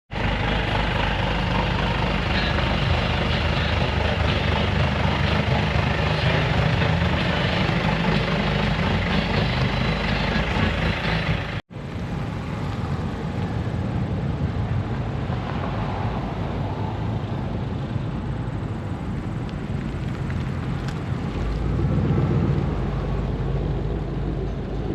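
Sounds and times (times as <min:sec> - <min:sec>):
car engines rumbling: 0:00.1 - 0:24.9.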